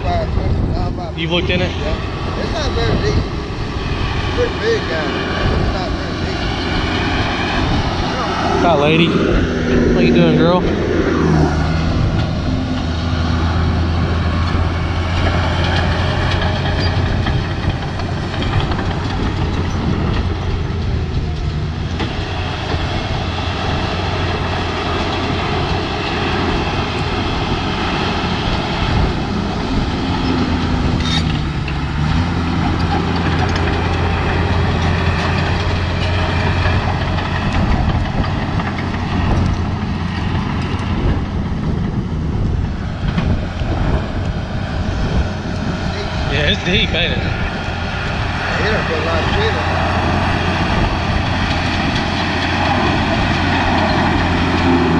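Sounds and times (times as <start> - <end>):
heavy equipment engine humming: 0.0 - 54.9.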